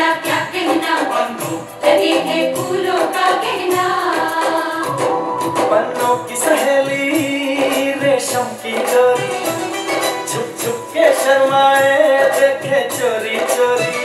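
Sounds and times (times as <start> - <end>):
film song with singing and beat: 0.0 - 14.0.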